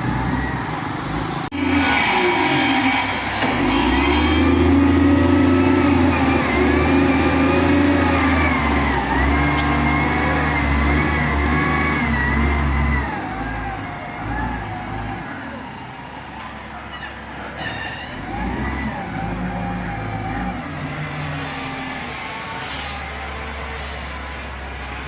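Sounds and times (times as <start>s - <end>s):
bulldozer diesel engine: 0.0s - 25.0s.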